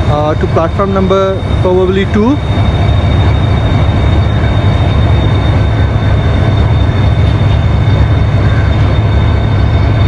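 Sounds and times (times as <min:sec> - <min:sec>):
high whine: 0:00.0 - 0:10.0
train coaches rumbling: 0:00.0 - 0:10.0.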